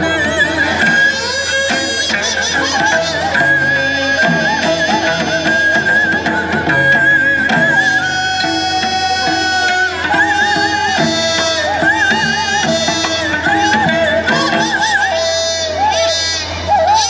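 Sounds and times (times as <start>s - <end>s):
drum strokes: 0.0s - 17.0s
wavering melodic instruments: 0.0s - 17.0s.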